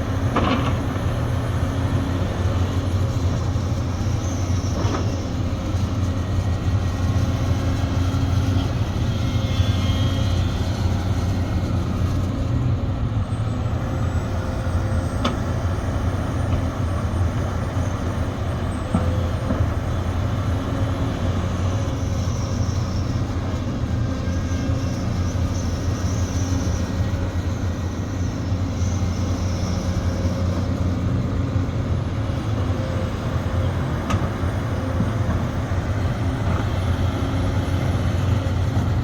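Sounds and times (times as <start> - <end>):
excavator diesel engine droning: 0.0 - 39.0.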